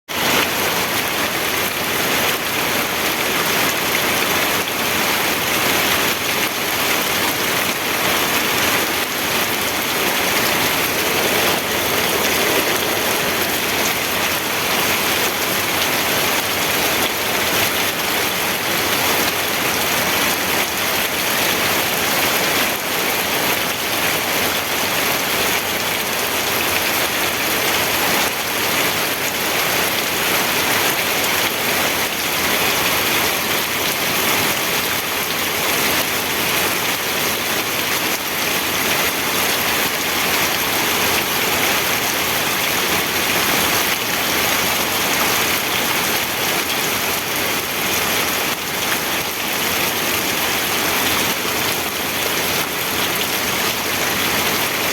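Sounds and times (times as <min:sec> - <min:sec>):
steady rain falling: 0:00.1 - 0:54.9.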